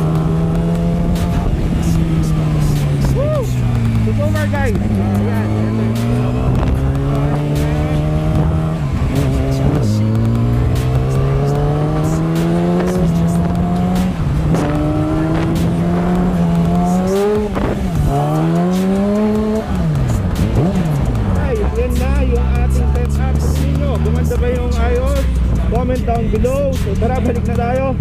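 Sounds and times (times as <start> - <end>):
motorcycle engine shifting up: 0.0 - 27.7.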